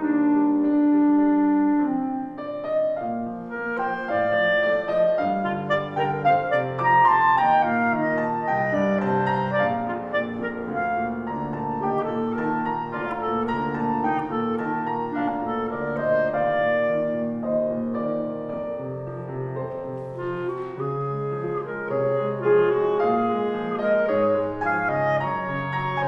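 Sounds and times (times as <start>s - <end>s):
clarinet melody: 0.0s - 26.0s
piano accompaniment: 0.0s - 26.0s.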